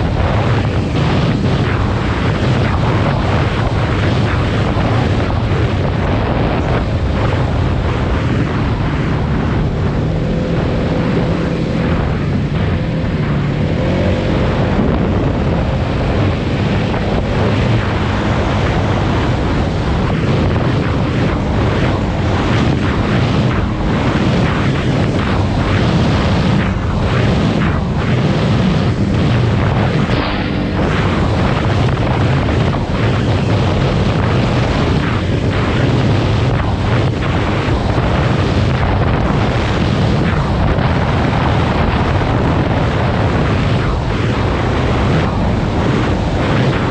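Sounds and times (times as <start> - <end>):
atv engine running: 0.0 - 46.9
wind buffeting microphone: 0.0 - 46.9.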